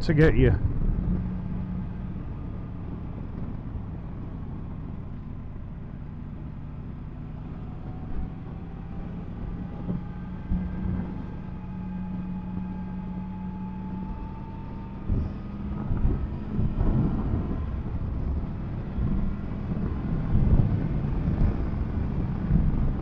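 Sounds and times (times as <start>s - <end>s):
wind buffeting: 0.0s - 23.0s.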